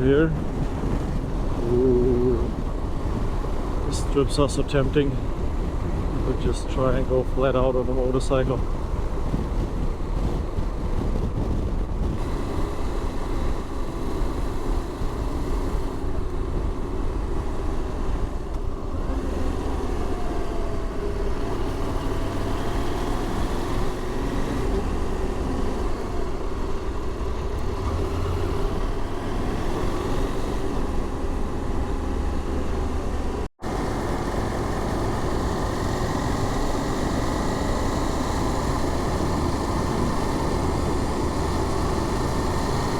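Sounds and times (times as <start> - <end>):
motorcycle engine drone: 0.0 - 42.9
wind and road noise: 0.0 - 42.9.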